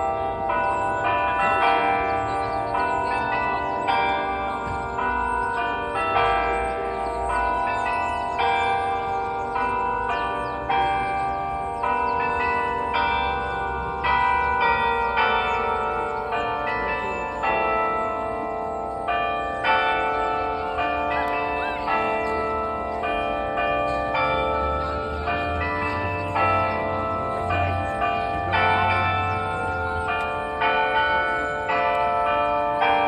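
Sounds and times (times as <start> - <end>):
clock playing a tune on bells: 0.0 - 33.0.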